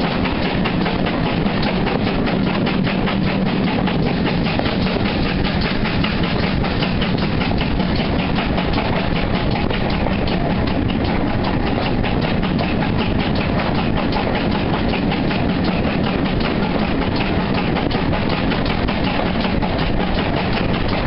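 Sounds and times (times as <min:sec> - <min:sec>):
steam locomotive exhaust beats: 0:00.0 - 0:21.0
train running rumble: 0:00.0 - 0:21.0.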